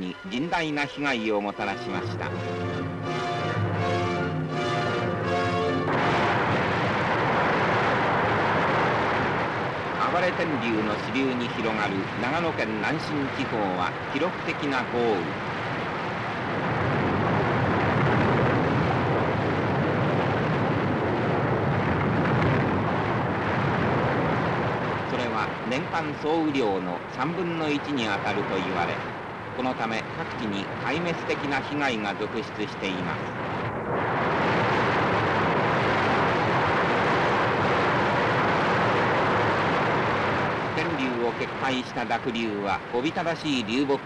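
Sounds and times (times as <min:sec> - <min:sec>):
floodwater torrent roaring: 0:00.4 - 0:44.0.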